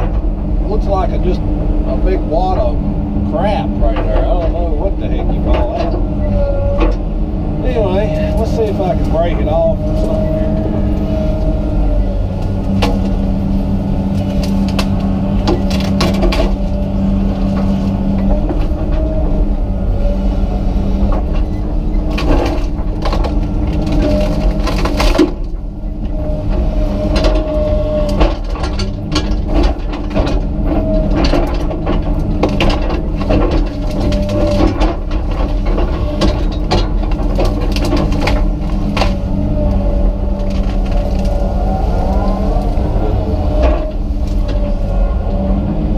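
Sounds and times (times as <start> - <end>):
excavator engine running: 0.0 - 45.9
wood and roots cracking: 3.8 - 45.9.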